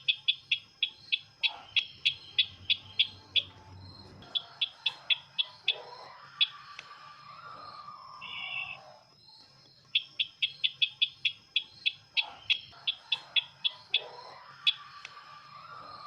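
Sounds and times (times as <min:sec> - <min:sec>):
buzzy bird trill: 0:00.0 - 0:16.0.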